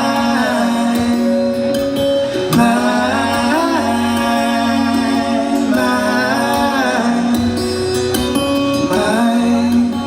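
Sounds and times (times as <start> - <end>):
man singing long notes: 0.0 - 10.0
quiet band accompaniment: 0.0 - 10.0.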